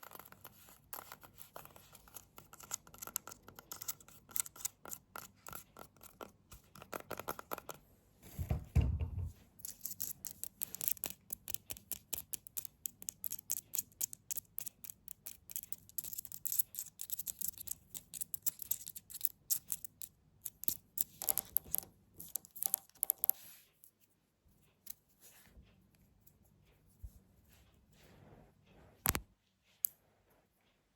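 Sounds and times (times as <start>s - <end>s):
close tapping and scratching: 0.0s - 7.8s, 8.4s - 27.2s.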